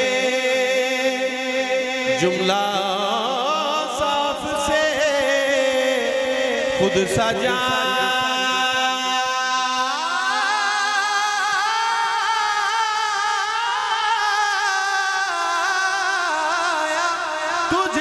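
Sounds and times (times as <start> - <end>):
man singing through loudspeakers: 0.0 - 18.0.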